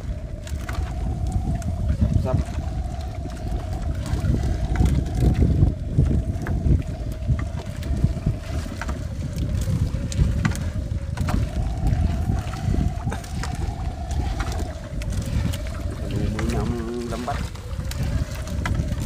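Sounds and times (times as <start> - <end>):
wavering hum: 0.0 - 19.0
wind rumbling on microphone: 0.0 - 19.0.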